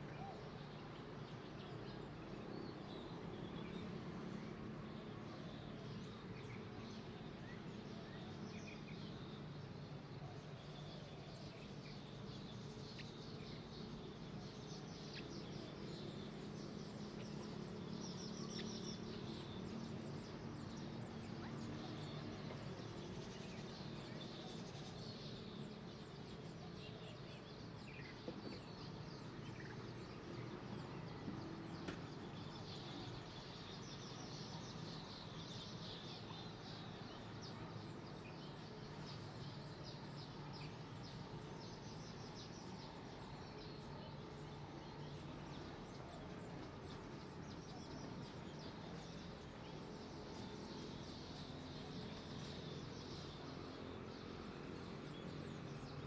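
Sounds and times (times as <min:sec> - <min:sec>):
small birds chirping and twittering: 0:00.0 - 0:56.0.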